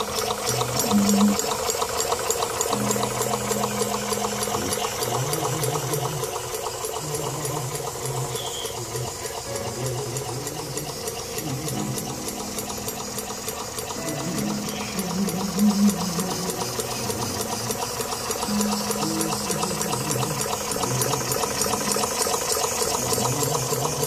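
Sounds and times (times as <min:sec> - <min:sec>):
miniature steam engine clicking: 0:00.0 - 0:24.0
steam hissing: 0:00.0 - 0:24.0.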